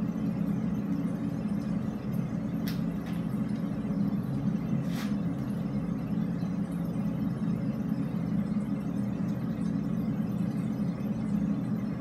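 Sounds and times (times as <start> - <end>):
low rumbling inside drainpipe: 0.0 - 12.0.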